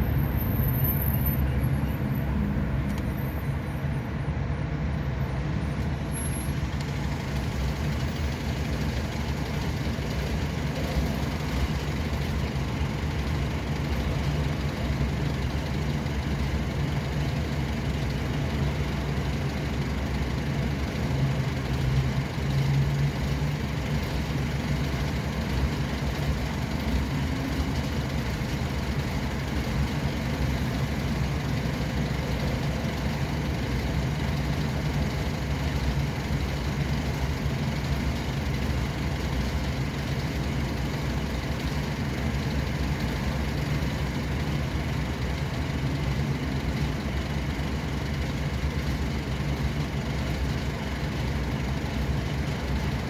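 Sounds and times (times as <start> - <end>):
road vehicle engine and tyre rumble: 0.0 - 53.0.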